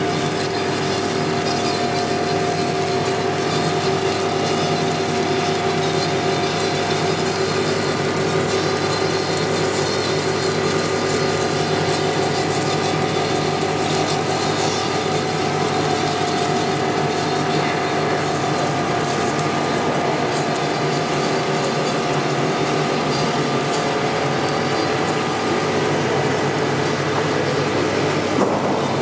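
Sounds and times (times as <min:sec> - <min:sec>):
machine noise with held tones: 0:00.0 - 0:29.0.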